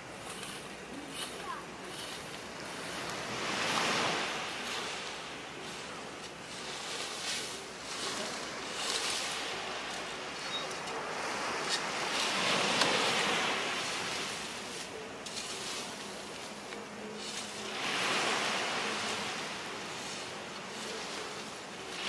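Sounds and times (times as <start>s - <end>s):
sea waves on beach: 1.6s - 22.0s.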